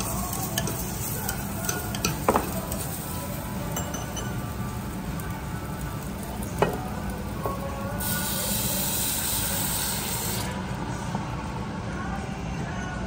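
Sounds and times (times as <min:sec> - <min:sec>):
sauce sizzling in hot pot: 0:00.0 - 0:10.6.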